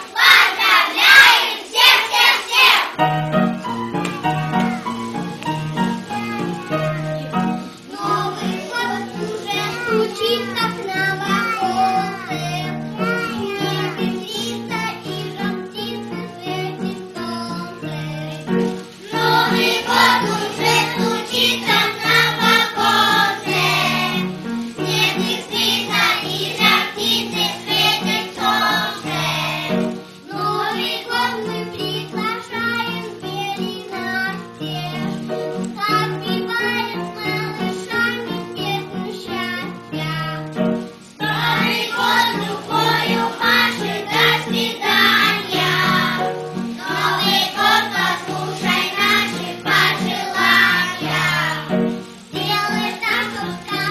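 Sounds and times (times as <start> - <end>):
child singing: 0.0 - 53.9
instrumental accompaniment: 0.0 - 53.9.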